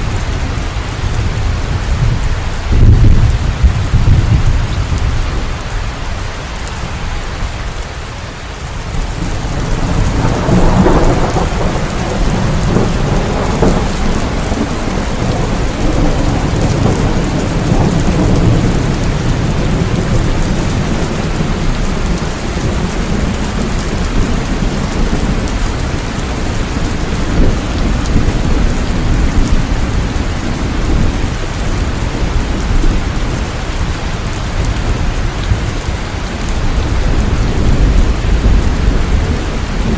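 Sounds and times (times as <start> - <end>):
thunder rumbling: 0.0 - 7.6, 8.7 - 39.9
heavy rain: 0.0 - 39.9.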